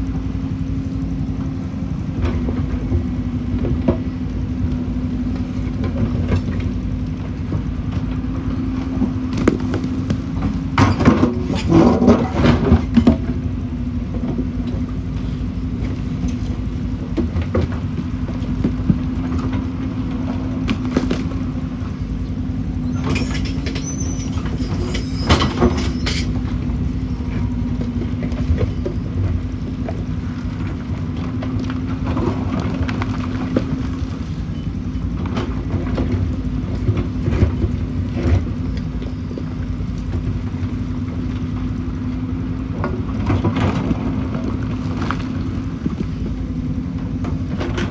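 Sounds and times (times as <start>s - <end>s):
diesel excavator engine running: 0.0s - 47.9s.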